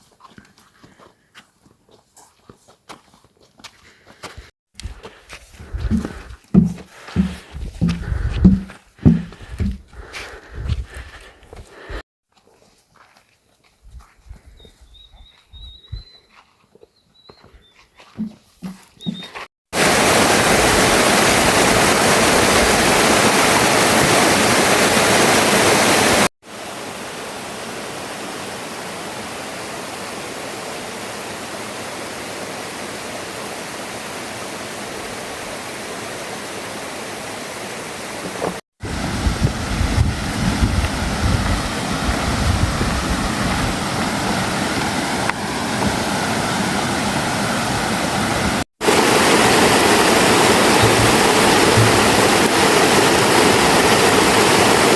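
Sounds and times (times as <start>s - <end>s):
rushing stream: 4.8s - 12.0s, 18.1s - 54.9s.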